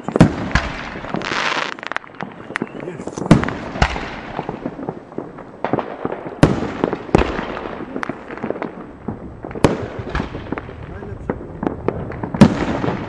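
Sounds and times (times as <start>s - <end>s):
firework pops and crackles: 0.0s - 13.0s
firework shells bursting: 0.0s - 13.0s.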